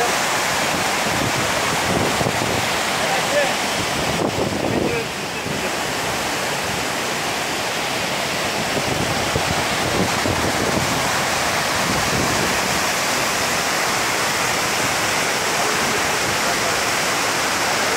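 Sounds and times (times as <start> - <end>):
rapids: 0.0 - 17.9
waterfall rushing: 0.0 - 17.9.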